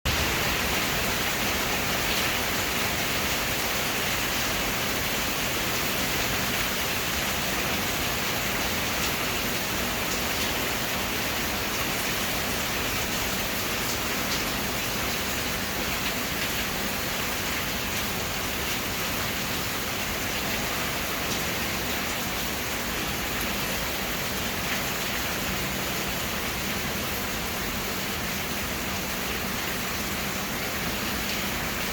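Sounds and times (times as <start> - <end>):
heavy rain pattering: 0.1 - 31.9.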